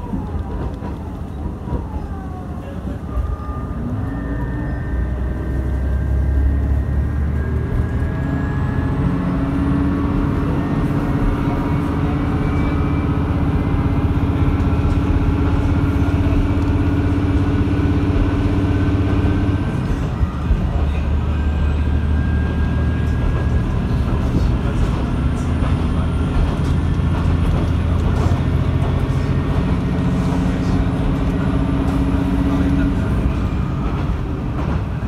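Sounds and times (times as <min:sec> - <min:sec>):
diesel railcar engine: 0:00.0 - 0:35.0
train running noise: 0:00.0 - 0:35.0.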